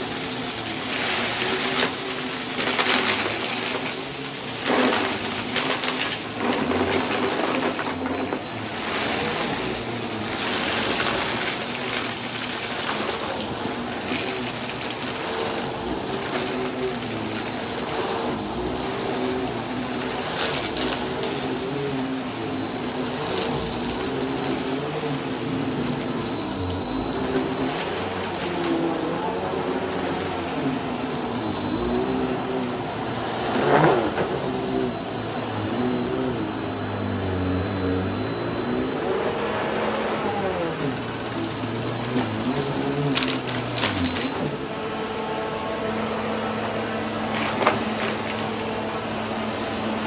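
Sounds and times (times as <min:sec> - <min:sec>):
debris crackling in vacuum: 0:00.0 - 0:44.8
vacuum cleaner whining: 0:00.0 - 0:50.0.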